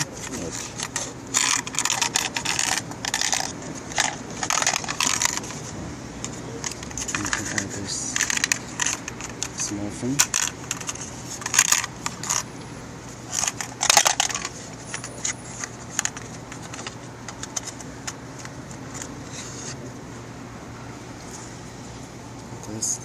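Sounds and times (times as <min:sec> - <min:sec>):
clicks and scrapes of plastic sockets: 0:00.0 - 0:12.5, 0:13.3 - 0:19.8
steady low hum: 0:00.0 - 0:23.0.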